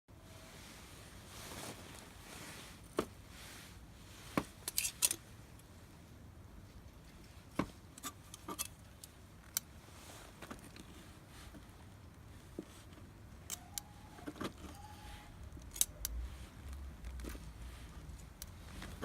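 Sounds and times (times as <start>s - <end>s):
low steady background noise: 0.1s - 19.0s.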